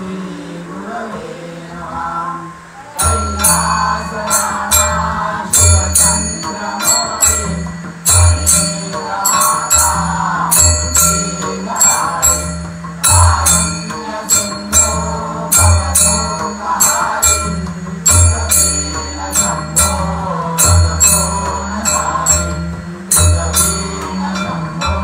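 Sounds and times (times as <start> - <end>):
devotional music with rhythmic beat: 0.0 - 25.0
bells ringing: 3.0 - 25.0.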